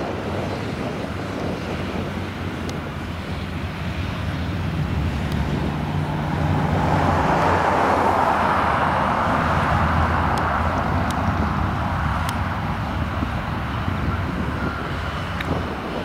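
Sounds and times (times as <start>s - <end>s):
motorcycles riding past: 1.8s - 16.0s.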